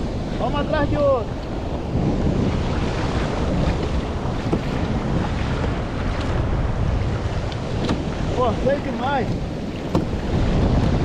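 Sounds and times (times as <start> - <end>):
waves washing around kayak: 0.0 - 11.0
wind rumbling on microphone: 0.0 - 11.0.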